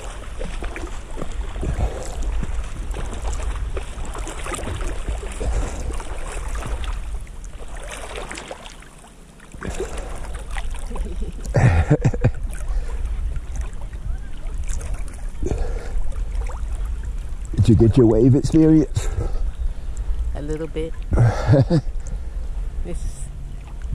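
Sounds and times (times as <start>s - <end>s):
waves splashing against camera: 0.0s - 23.9s.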